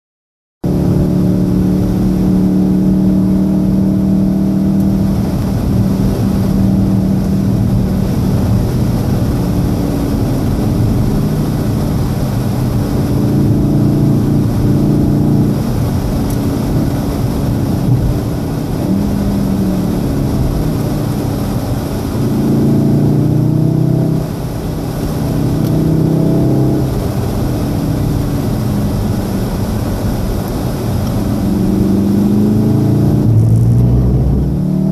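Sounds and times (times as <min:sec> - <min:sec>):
car engine from inside cabin: 0:00.6 - 0:34.9
tyre noise on wet road: 0:00.8 - 0:34.9.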